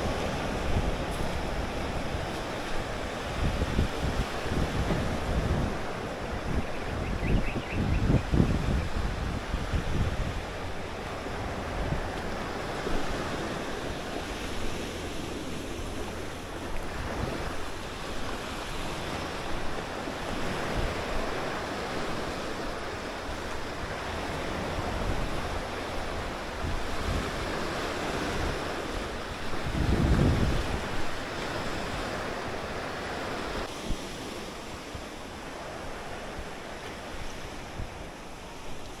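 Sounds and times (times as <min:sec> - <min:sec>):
waves washing onto shore: 0:00.0 - 0:39.0
wind buffeting microphone: 0:00.0 - 0:39.0.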